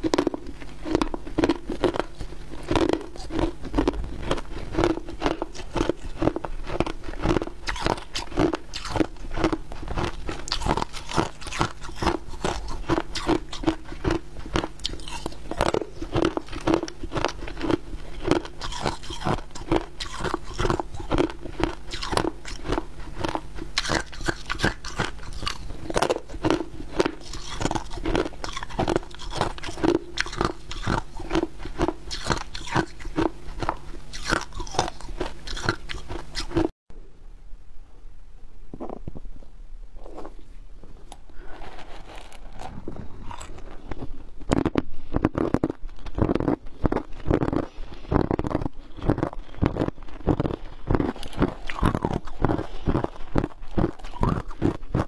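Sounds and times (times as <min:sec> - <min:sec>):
ice being chewed crunching: 0:00.0 - 0:36.7, 0:41.4 - 0:55.0.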